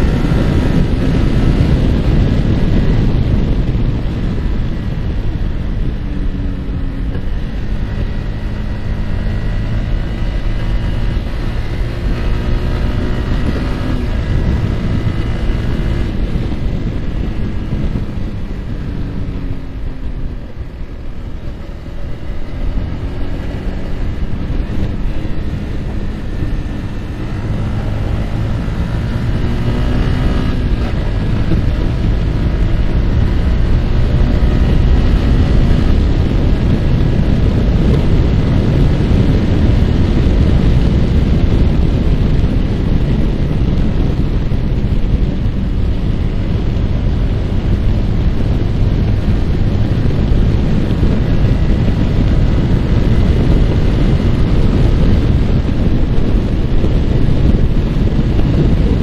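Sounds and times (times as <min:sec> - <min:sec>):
motorcycle engine: 0:00.0 - 0:59.0
wind buffeting microphone: 0:00.0 - 0:59.0.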